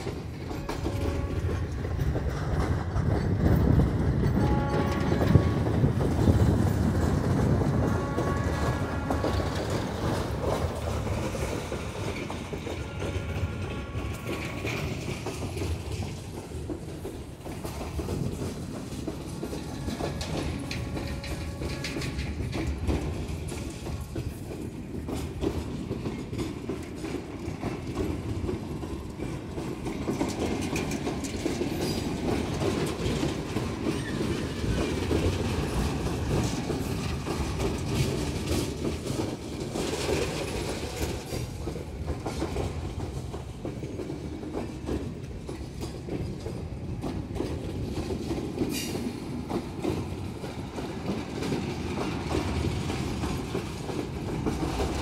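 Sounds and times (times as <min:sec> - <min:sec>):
freight wagons rolling on rails: 0:00.0 - 0:55.0
wheels clicking over rail joints: 0:00.0 - 0:55.0.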